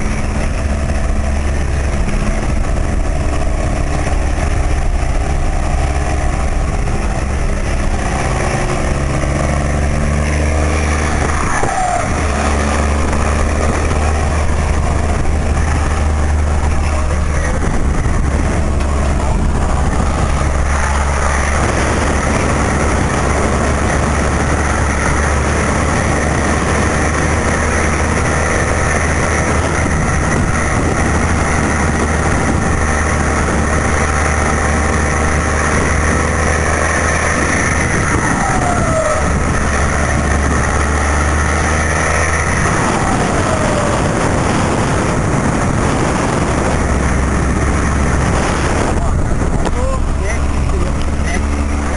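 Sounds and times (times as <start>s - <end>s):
truck diesel engine droning: 0.0s - 51.9s.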